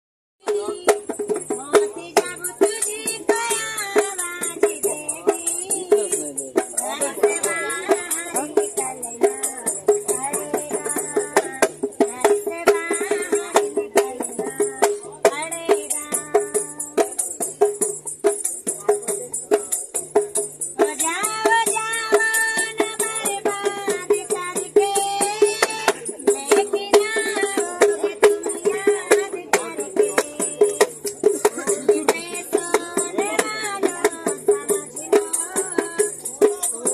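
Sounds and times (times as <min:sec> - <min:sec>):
woman singing: 0:00.4 - 0:17.2, 0:20.8 - 0:36.9
hand drum beat: 0:00.4 - 0:36.9.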